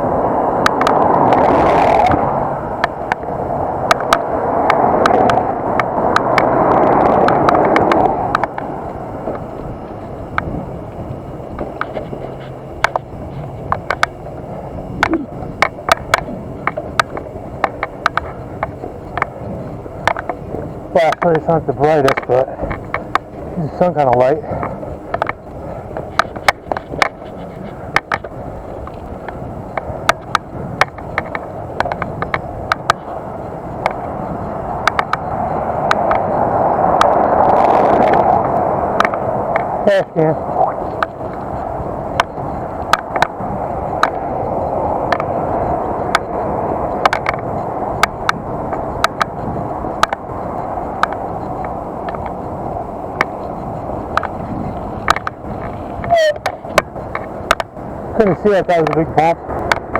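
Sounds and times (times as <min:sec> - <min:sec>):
bicycle clicks and rattles: 0:00.0 - 0:59.9
bicycle tyre and wind noise: 0:00.0 - 0:59.9.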